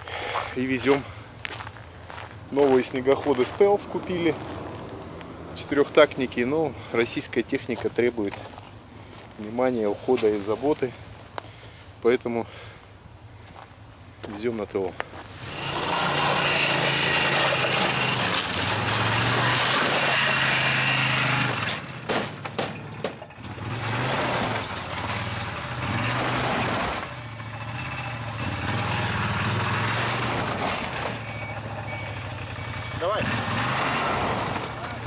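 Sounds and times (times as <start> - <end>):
road and wind noise: 0.0 - 35.0
vehicle engine humming: 0.0 - 35.0.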